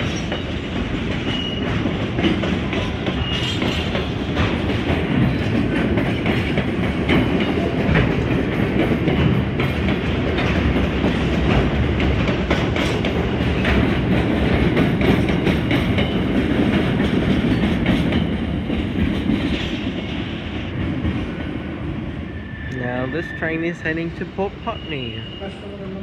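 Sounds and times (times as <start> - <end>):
clacks over rail joints: 0.0 - 21.6
train wheels rumbling on rail: 0.0 - 26.0.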